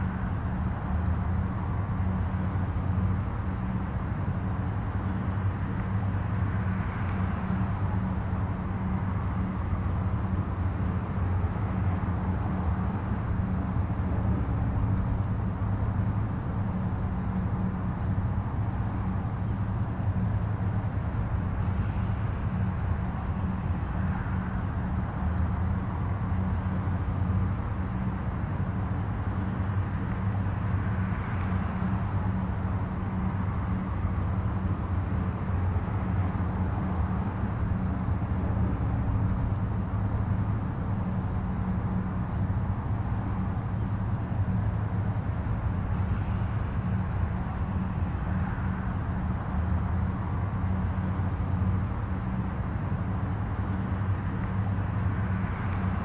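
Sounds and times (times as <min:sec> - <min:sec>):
distant highway traffic: 0:00.0 - 0:56.0.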